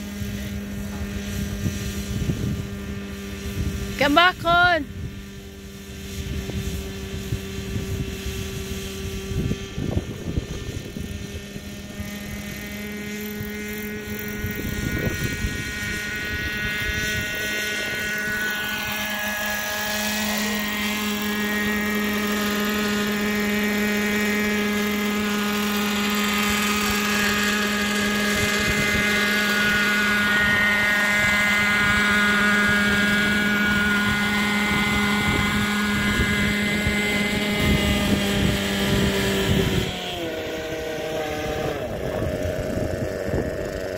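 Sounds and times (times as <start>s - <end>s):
model helicopter rotor whine: 0.0s - 43.9s.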